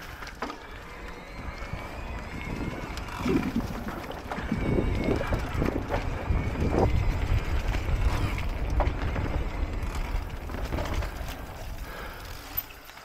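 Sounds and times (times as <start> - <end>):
bike rattling over bumps: 0.0 - 13.0
tyres rumbling on dirt: 0.0 - 13.0
wind rushing past microphone: 1.1 - 12.2.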